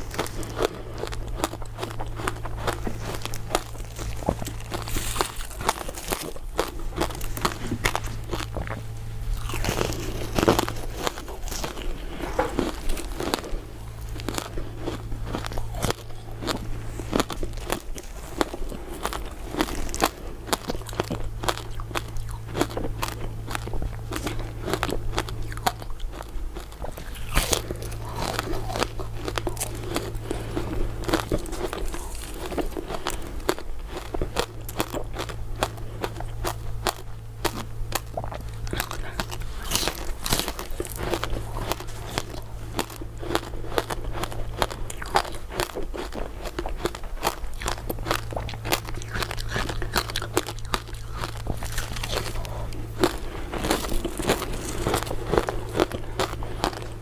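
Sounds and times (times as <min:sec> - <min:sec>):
crunching ice dessert: 0:00.0 - 0:57.0
low hum: 0:00.0 - 0:57.0.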